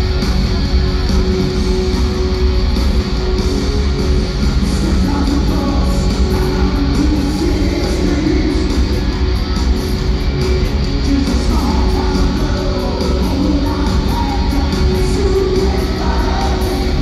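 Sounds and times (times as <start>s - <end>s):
loud rock music with guitar: 0.0s - 17.0s.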